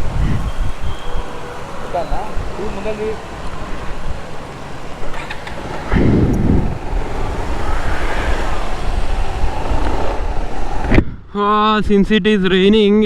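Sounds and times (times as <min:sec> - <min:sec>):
motorcycle engine: 0:00.0 - 0:11.1
road traffic noise: 0:00.0 - 0:11.3
wind buffeting microphone: 0:00.0 - 0:12.9.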